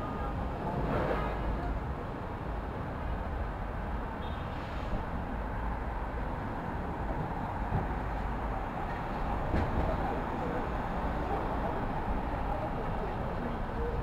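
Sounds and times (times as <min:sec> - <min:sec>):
traffic rumble: 0:00.0 - 0:14.0
urban hum: 0:00.0 - 0:14.0.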